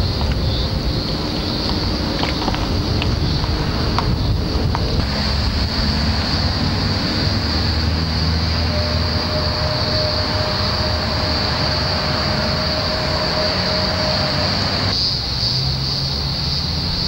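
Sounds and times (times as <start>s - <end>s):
train wheels rolling: 0.0s - 15.4s
high wheel squeal: 0.0s - 17.0s
low engine hum: 0.0s - 17.0s.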